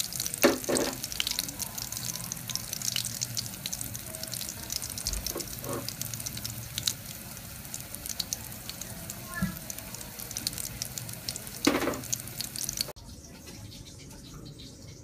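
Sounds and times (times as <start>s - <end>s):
patty sizzling in oil: 0.0s - 13.0s.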